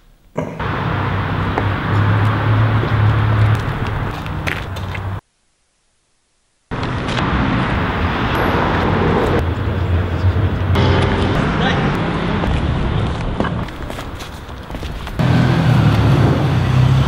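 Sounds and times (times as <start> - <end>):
street noise with low rumble: 0.3 - 5.3, 6.7 - 17.0.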